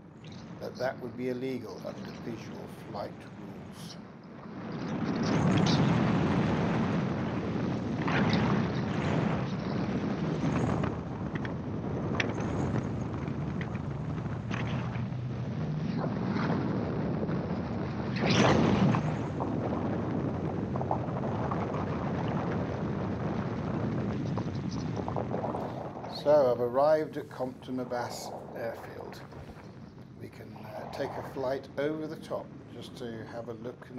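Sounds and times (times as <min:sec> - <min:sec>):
wind rush on microphone: 0:00.0 - 0:33.9.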